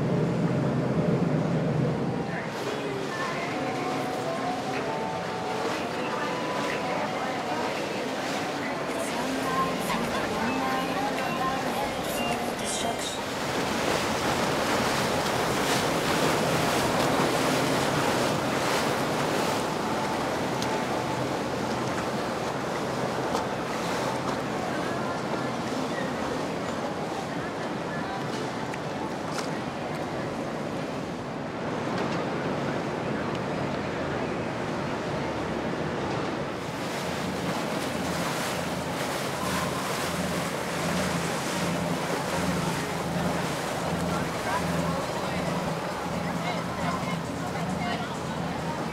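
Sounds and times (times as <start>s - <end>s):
motorboat engine drone: 0.0s - 48.9s
water rushing: 0.0s - 48.9s.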